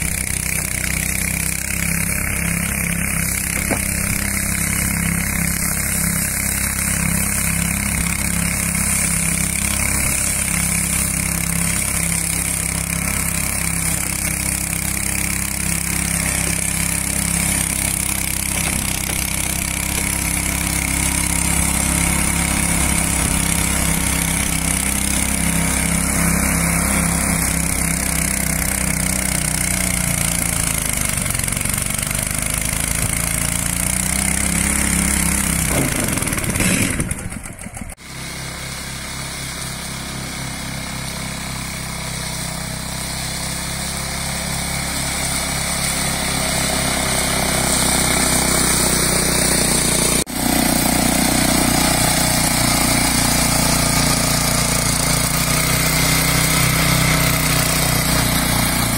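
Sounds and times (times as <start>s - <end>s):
small petrol mower engines running: 0.0s - 58.9s.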